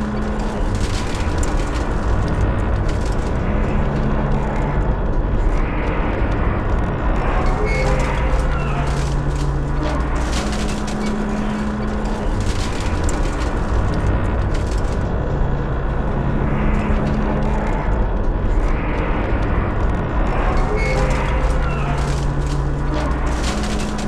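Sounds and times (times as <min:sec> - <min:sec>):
steel structure creaking and grinding: 0:00.0 - 0:24.0.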